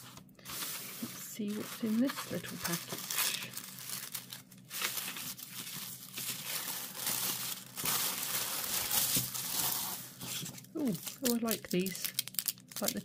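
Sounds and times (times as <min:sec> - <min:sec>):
tissue paper crinkling: 0:00.0 - 0:13.0.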